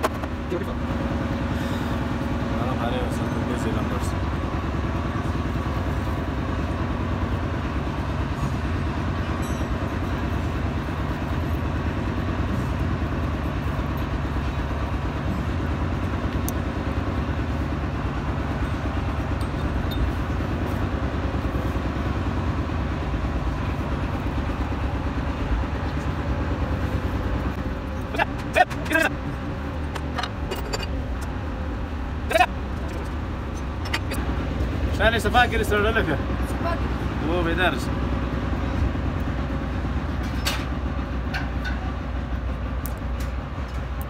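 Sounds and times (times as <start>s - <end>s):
low engine rumble: 0.0s - 44.0s.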